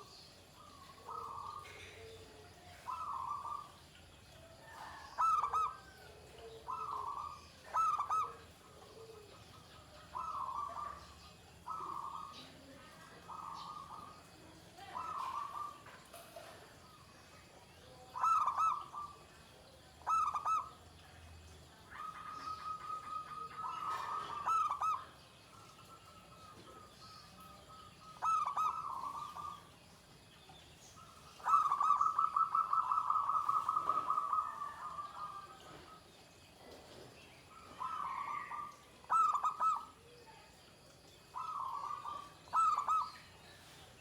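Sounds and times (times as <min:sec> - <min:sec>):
dove cooing rolling trills: 0:00.0 - 0:44.0.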